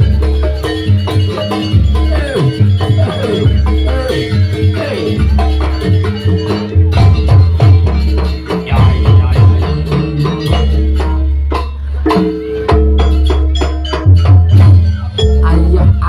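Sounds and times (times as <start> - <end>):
drum and percussion strikes: 0.0 - 16.0
music with heavy bass: 0.0 - 16.0.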